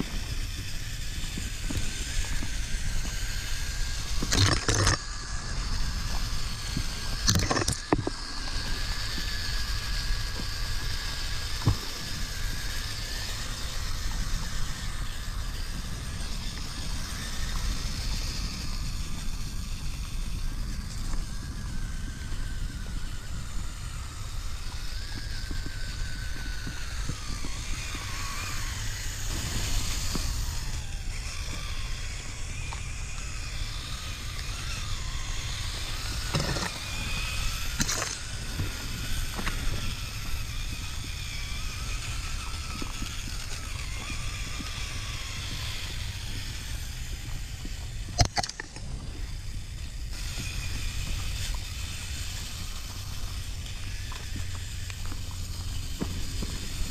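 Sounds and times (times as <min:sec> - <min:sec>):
electric motor and gears whining: 0:00.0 - 0:56.9
steady low rumble: 0:05.0 - 0:56.9.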